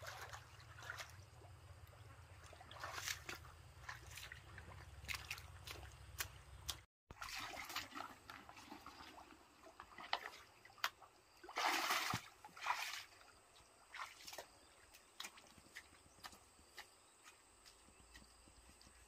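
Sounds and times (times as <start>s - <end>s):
muddy water splashing: 0.0s - 19.0s.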